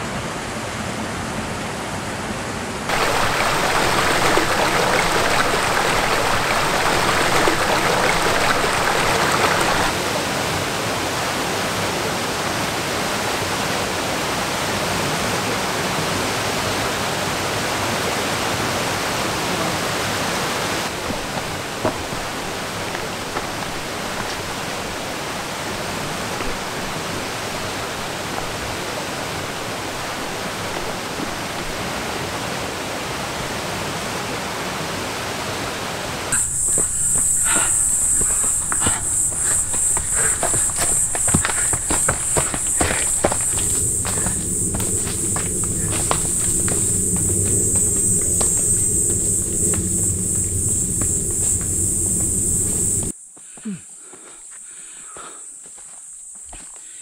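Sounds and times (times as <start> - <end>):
stream water rushing over rocks: 2.9 - 53.1.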